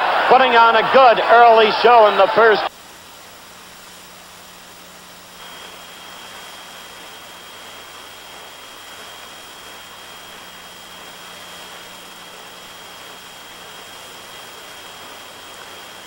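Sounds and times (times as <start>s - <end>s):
steady hiss: 0.2s - 16.0s
low hum: 2.6s - 16.0s
thin high steady tone: 2.9s - 16.0s.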